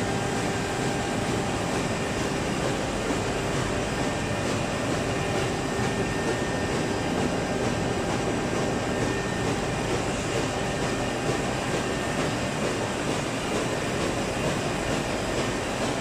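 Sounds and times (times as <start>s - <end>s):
machine clattering: 0.0s - 16.0s.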